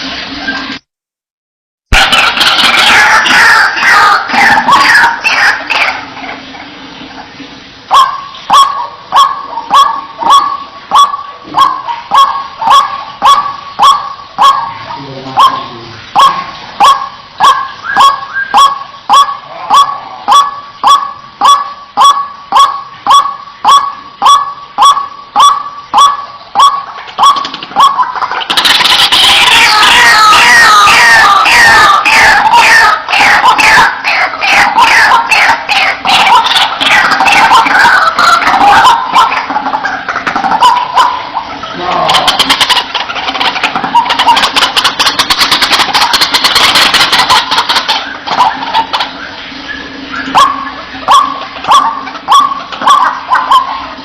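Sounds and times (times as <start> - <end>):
waterhen calling: 0.0 - 0.8, 1.9 - 54.0.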